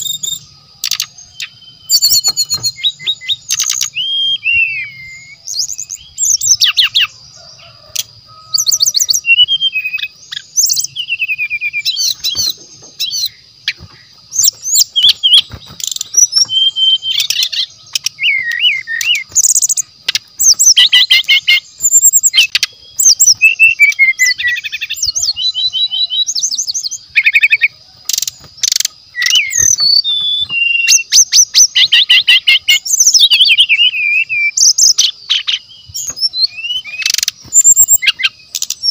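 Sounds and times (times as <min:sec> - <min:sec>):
bird singing trills: 0:00.0 - 0:38.9.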